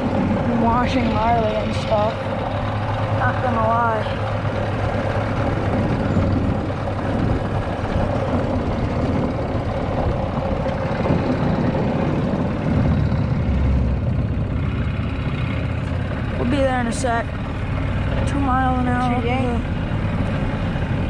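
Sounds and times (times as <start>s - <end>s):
golf cart running: 0.0s - 21.0s.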